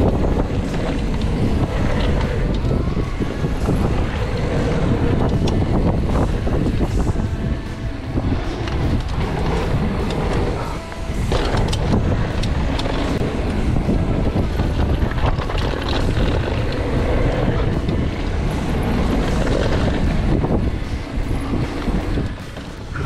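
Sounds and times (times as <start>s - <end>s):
bike knocks and rattles: 0.0s - 23.0s
bike tyres rolling on dirt: 0.0s - 23.0s
wind buffeting microphone: 0.0s - 23.0s.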